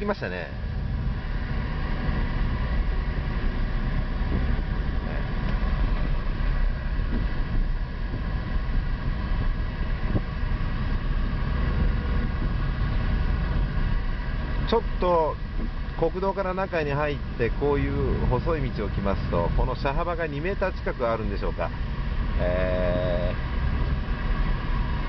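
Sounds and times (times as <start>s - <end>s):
car engine running: 0.0s - 25.0s
road and tyre noise: 0.0s - 25.0s.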